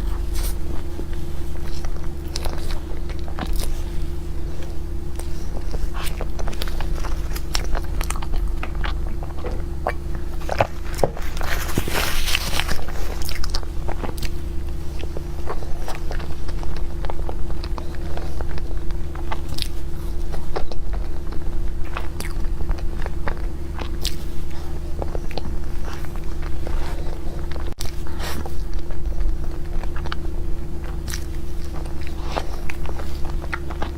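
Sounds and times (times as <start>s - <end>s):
crunching: 0.0s - 30.2s
chewing cake: 0.0s - 33.9s.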